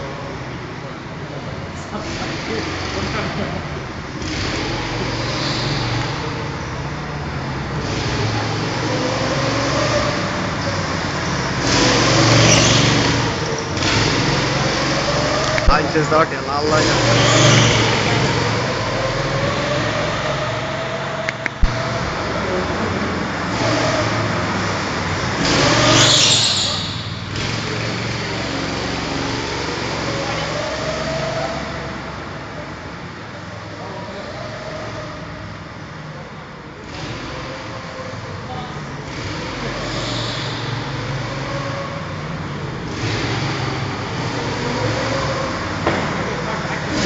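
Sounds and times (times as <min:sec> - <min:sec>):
go-kart driving past: 0:00.0 - 0:47.0.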